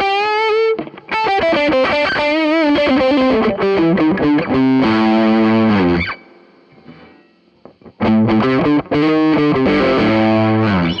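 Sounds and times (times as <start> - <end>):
overdriven electric guitar: 0.0 - 11.0.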